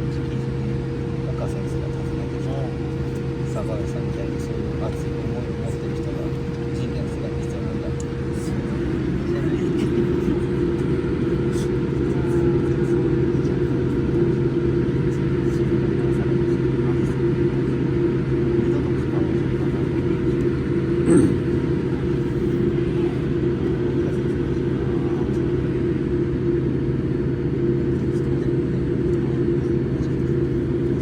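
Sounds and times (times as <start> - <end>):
jet engine cabin drone: 0.0 - 31.0.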